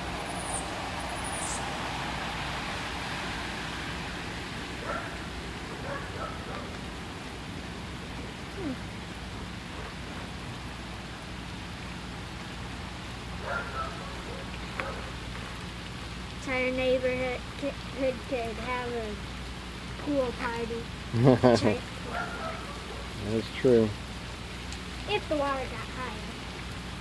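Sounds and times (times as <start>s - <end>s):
rain hissing: 0.0s - 27.0s
water running over street: 0.0s - 27.0s.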